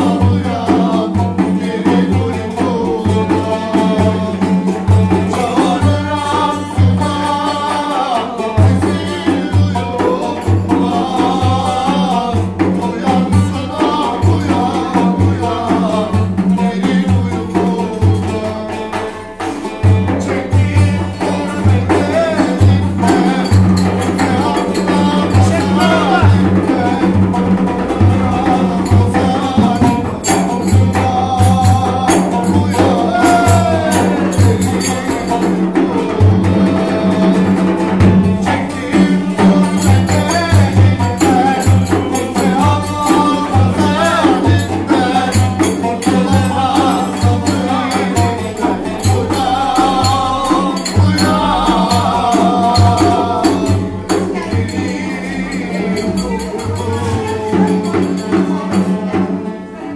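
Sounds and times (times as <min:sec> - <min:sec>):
hand-beaten drum: 0:00.0 - 0:59.9
man singing: 0:00.0 - 0:59.9
strummed lute: 0:00.0 - 0:59.9.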